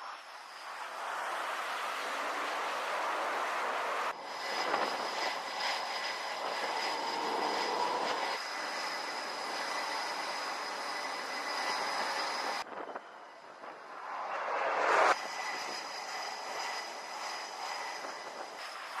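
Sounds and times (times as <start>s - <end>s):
jet engines with turbine whine: 0.0s - 19.0s.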